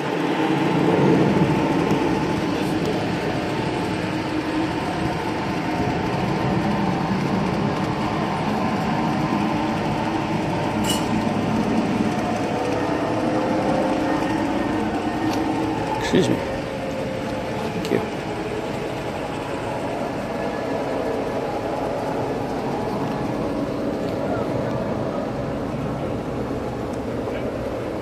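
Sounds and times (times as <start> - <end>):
model train rumbling: 0.0 - 28.0.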